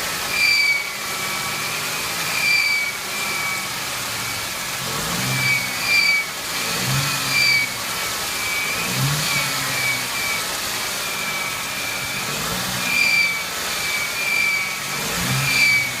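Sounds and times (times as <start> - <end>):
car engine running: 0.0 - 16.0
engine squeal chirping: 0.3 - 4.4, 5.1 - 16.0.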